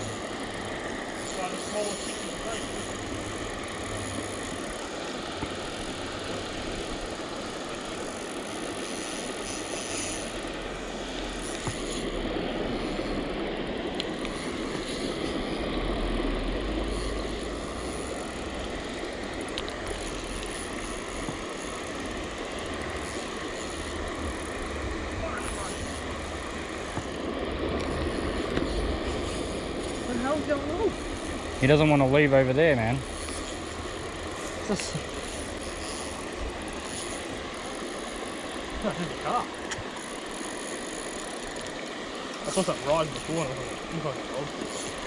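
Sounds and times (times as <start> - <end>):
water rushing over rocky weir: 0.0 - 45.0.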